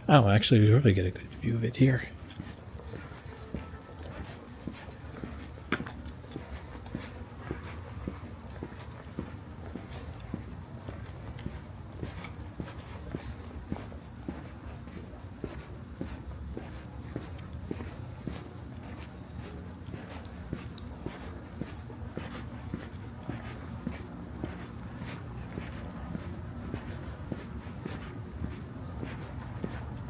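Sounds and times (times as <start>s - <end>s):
footsteps walking: 1.2s - 30.0s.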